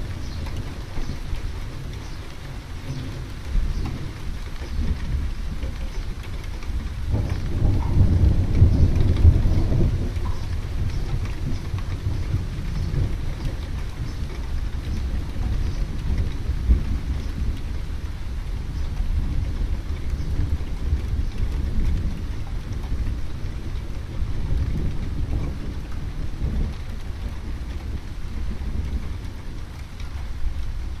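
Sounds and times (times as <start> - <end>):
low rumble of thunder: 0.0 - 31.0
rain falling: 0.0 - 31.0.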